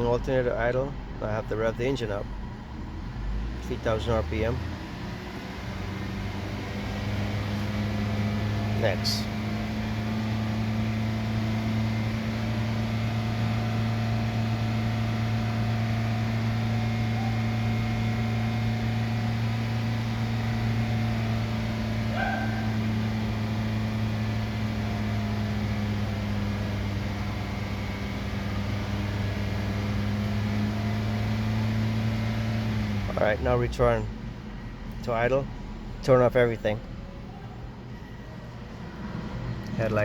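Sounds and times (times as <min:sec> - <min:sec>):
car engine running steadily: 0:00.0 - 0:40.0.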